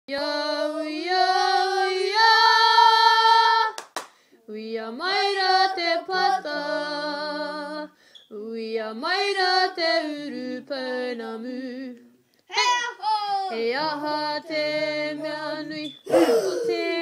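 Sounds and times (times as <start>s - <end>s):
young voices singing: 0.1s - 3.8s, 4.5s - 17.0s.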